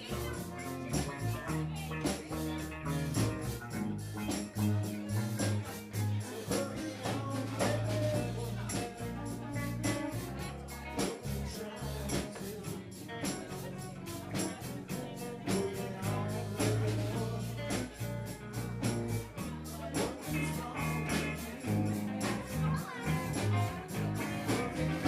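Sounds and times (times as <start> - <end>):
bass line: 0.0 - 25.0
drums keeping a steady beat: 0.0 - 25.0
guitar: 0.0 - 25.0.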